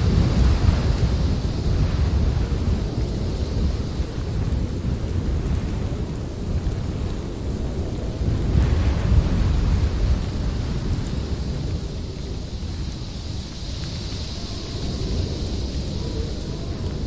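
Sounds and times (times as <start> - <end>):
strong gusting wind: 0.0 - 17.0.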